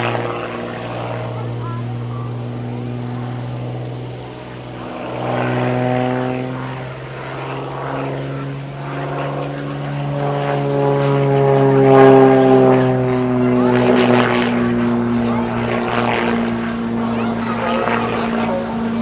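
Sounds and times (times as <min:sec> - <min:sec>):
propeller plane engine in flight: 0:00.0 - 0:19.0.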